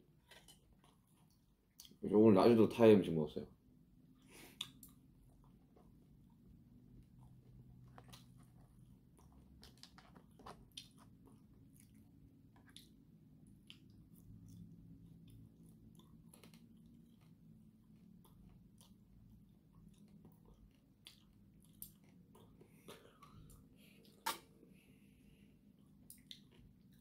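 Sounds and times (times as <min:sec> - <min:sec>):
low room hum: 0:00.0 - 0:27.0
chewing food: 0:00.1 - 0:02.0, 0:04.2 - 0:24.6, 0:25.6 - 0:27.0.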